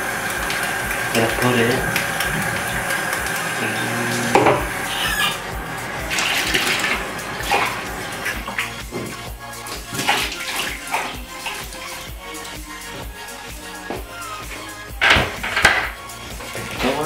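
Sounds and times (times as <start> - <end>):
background music with beat: 0.0 - 17.0
faucet water running into bucket: 0.0 - 17.0.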